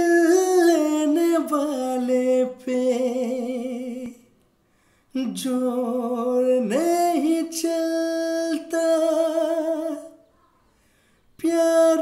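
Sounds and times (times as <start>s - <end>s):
man singing unaccompanied: 0.0s - 4.3s, 5.1s - 10.2s, 11.4s - 12.0s.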